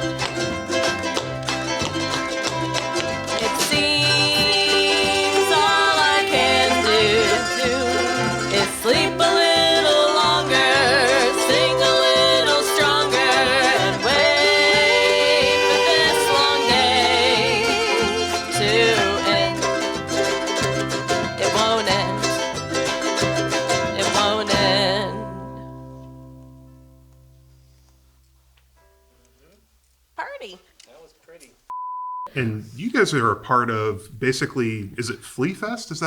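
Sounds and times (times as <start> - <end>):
ukulele band playing: 0.0 - 29.7.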